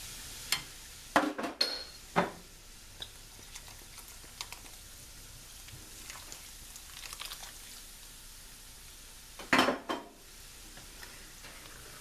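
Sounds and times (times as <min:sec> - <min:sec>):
low simmering hiss: 0:00.0 - 0:12.0.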